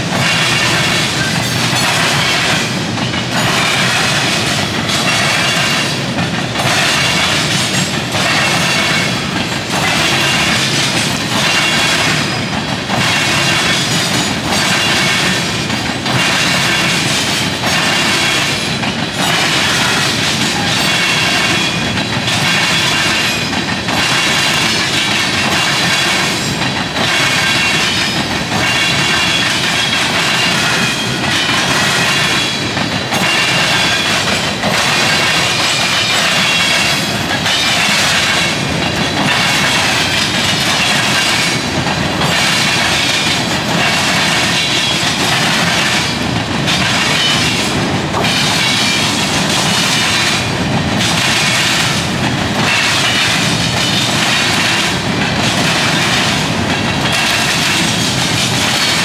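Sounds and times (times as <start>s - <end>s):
train wheels clattering: 0.0s - 59.0s.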